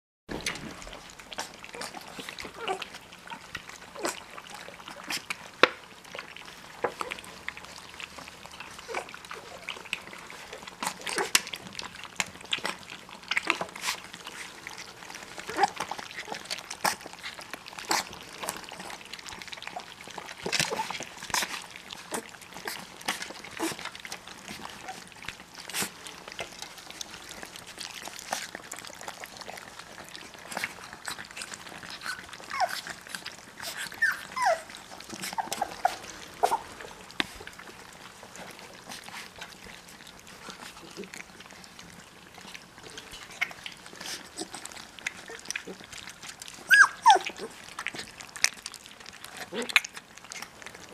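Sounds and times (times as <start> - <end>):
puppies lapping from a metal pan: 0.3 - 50.9.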